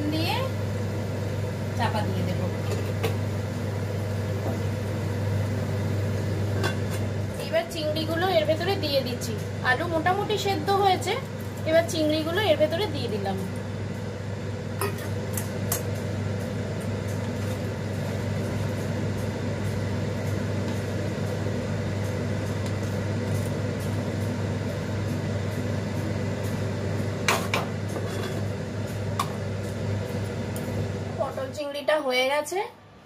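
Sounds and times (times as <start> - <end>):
kitchen appliance humming: 0.0 - 33.0.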